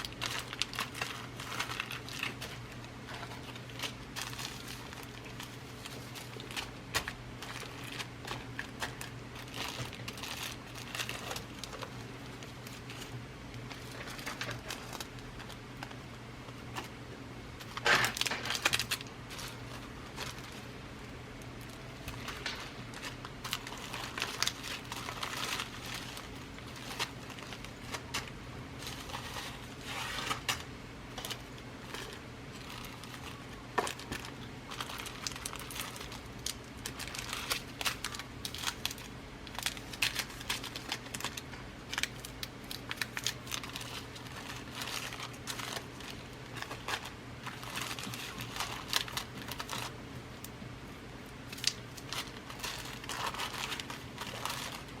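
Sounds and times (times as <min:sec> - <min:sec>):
bead packets rustling and crinkling: 0:00.0 - 0:17.0, 0:17.6 - 0:50.0, 0:51.4 - 0:55.0.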